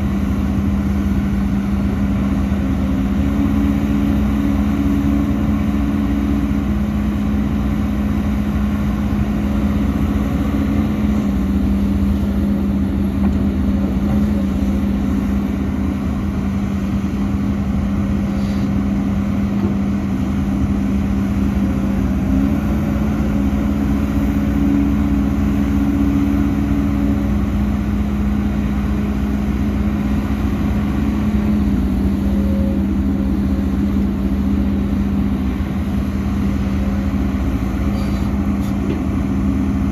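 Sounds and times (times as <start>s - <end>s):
diesel machinery engine running: 0.0s - 39.9s.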